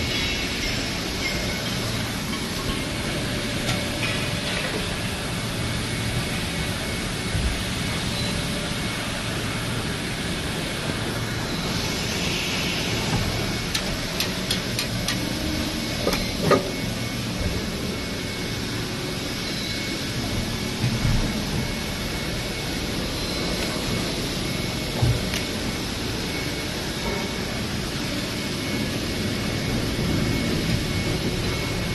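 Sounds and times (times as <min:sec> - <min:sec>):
faint high whine: 0:00.0 - 0:31.9
injection molding machine humming: 0:00.0 - 0:31.9.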